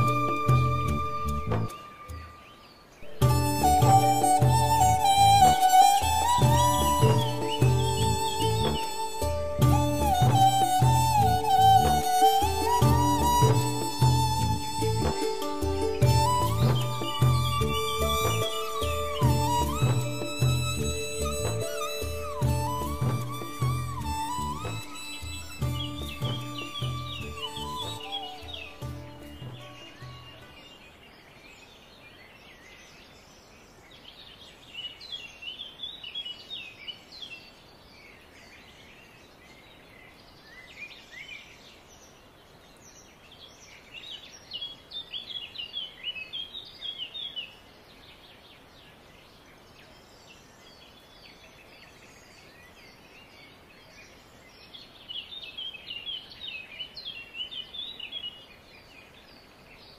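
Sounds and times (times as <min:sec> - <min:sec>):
birds chirping: 0:00.0 - 0:59.9
faint steady hiss: 0:00.0 - 0:59.9.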